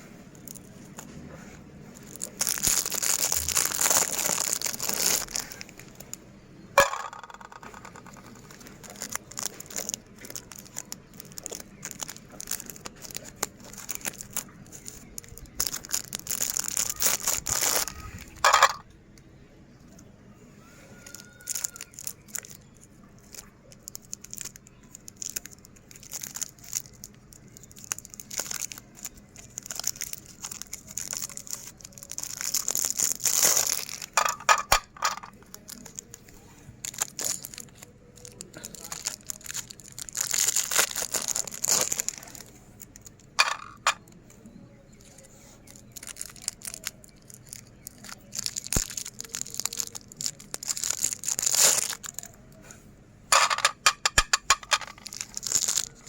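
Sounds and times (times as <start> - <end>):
hard candy crushed in grinder: 2.0 - 6.1, 6.8 - 18.8, 21.0 - 44.1, 44.9 - 52.4, 53.4 - 56.0.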